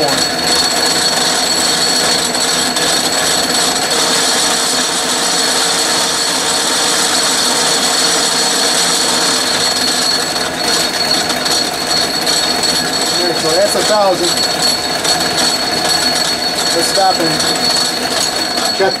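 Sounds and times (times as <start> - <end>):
metal lathe whirring: 0.0 - 19.0.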